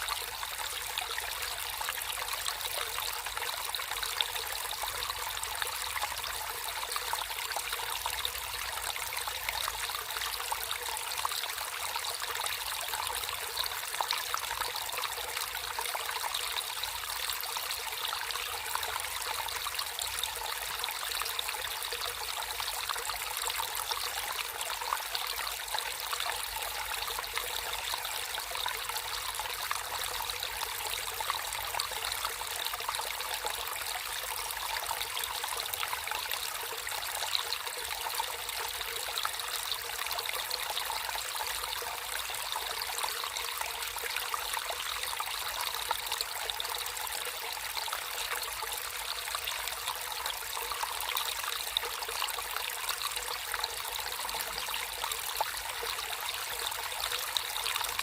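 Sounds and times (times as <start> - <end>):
water flowing and trickling: 0.0 - 58.0.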